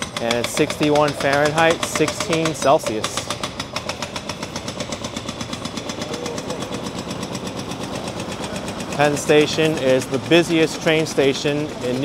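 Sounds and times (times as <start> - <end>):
city street noise: 0.0 - 12.0
machine engine pulsing: 0.0 - 12.0.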